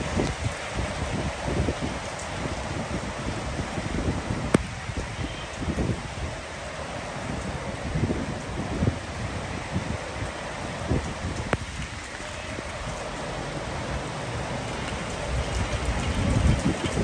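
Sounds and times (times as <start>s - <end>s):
wind buffeting microphone: 0.0s - 13.7s, 14.4s - 17.0s
heavy rain on rooftops: 0.0s - 17.0s.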